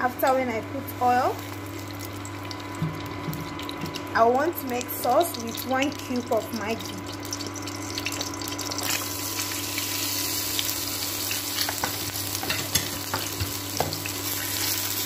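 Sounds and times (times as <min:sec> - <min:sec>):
vegetables sizzling in hot oil: 0:00.9 - 0:15.0.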